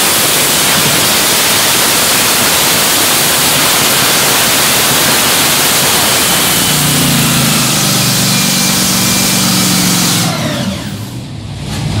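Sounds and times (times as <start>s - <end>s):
dragster engine running loud: 0.0s - 12.0s.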